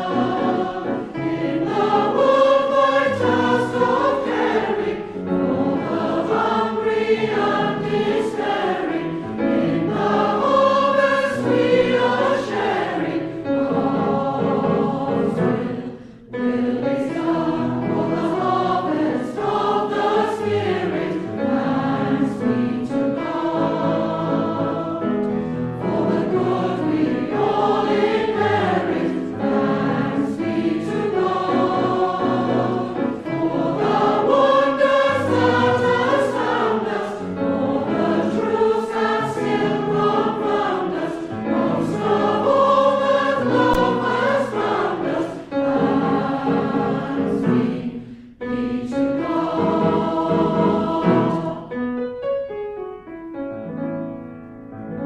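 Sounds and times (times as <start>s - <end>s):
congregation singing a hymn: 0.0s - 51.9s
piano accompaniment: 0.0s - 55.0s.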